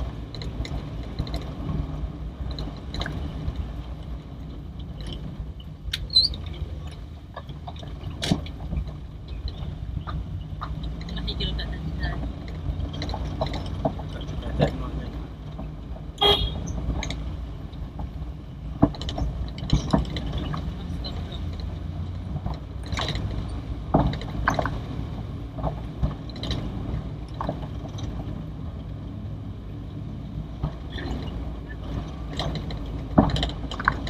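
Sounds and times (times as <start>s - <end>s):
car engine and road drone: 0.0s - 34.0s.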